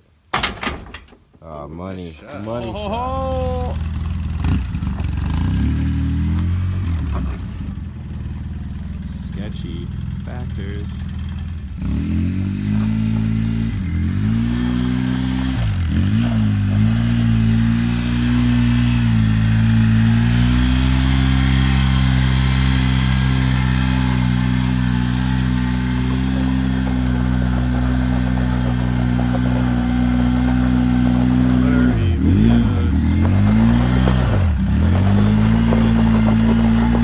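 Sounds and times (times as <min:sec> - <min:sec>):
engine running: 0:02.4 - 0:37.0.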